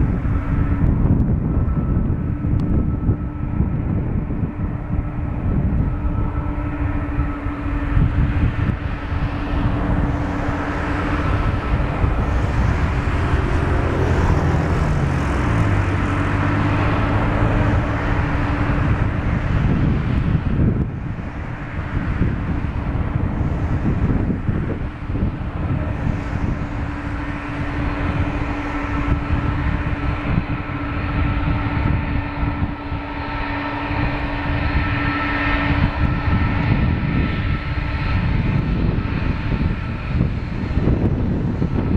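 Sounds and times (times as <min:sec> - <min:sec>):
deep hum: 0:00.0 - 0:41.9
jet engines whining: 0:00.0 - 0:41.9
wind buffeting microphone: 0:00.0 - 0:41.9.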